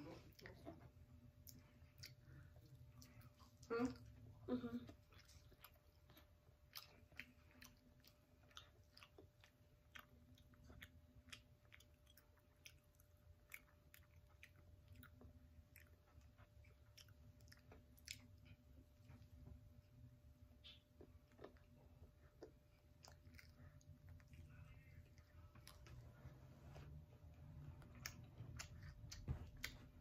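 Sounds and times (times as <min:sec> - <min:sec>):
child chewing and biting: 0:00.0 - 0:30.0.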